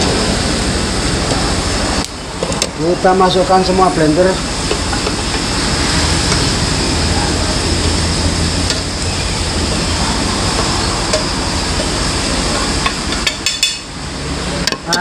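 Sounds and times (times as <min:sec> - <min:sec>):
blender mechanical drone: 0:00.0 - 0:02.1, 0:02.8 - 0:14.7.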